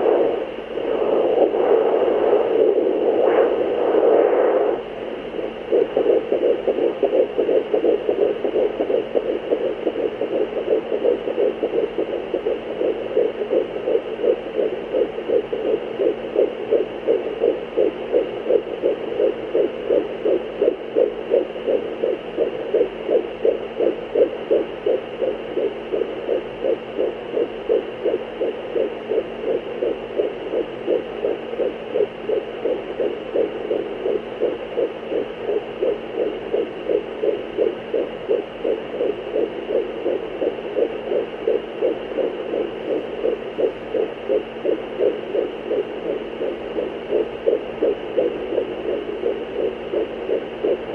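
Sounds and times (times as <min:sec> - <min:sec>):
fetal heartbeat whooshing beats: 0:00.0 - 0:50.9
steady hum: 0:00.0 - 0:50.9.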